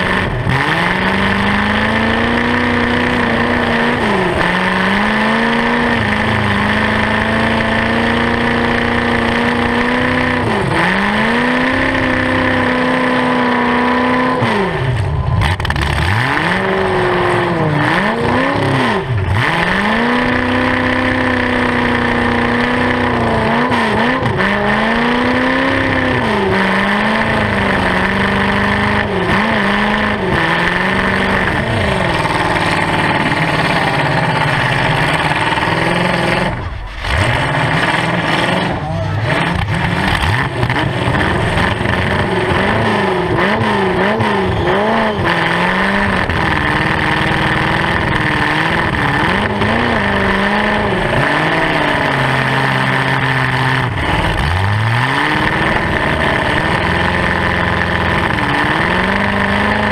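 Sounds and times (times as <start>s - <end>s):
loud engine revving: 0.0s - 59.9s
tires spinning: 0.0s - 59.9s.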